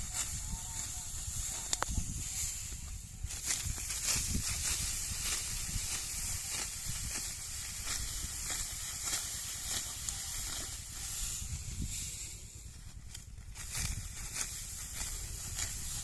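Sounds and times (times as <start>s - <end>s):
wheat stalks cut by hand: 0.0s - 16.0s
wind rumble on microphone: 0.0s - 16.0s.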